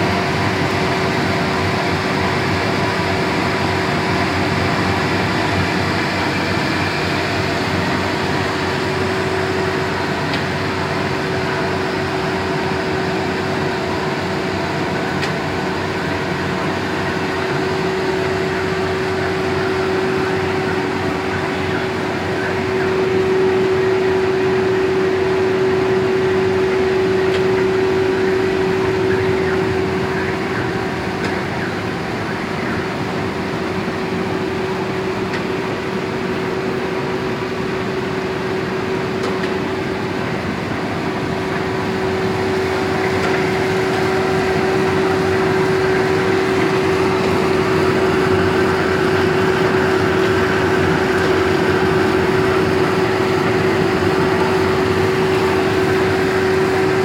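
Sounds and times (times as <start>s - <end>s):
constant hum: 0.0s - 57.0s
printing press mechanical whir: 0.0s - 57.0s.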